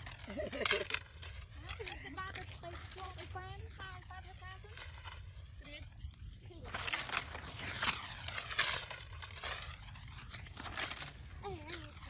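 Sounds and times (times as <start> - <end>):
dry leaves crackling and tearing: 0.0 - 12.0.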